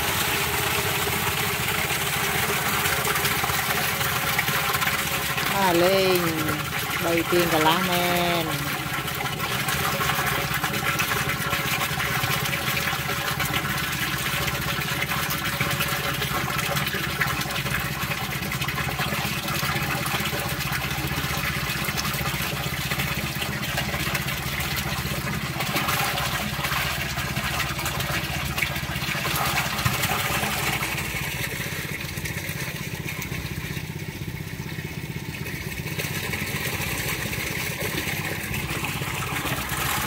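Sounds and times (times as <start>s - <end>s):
water gushing into a tank: 0.0s - 40.0s.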